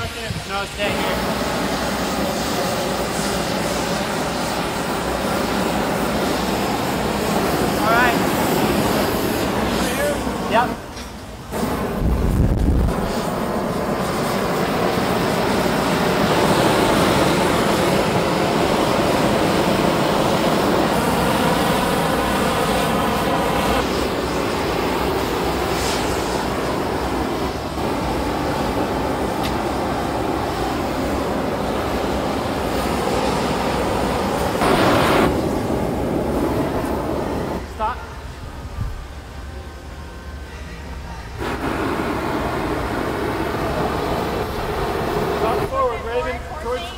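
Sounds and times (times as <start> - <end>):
gas torches rushing: 0.0 - 40.4, 41.3 - 46.9.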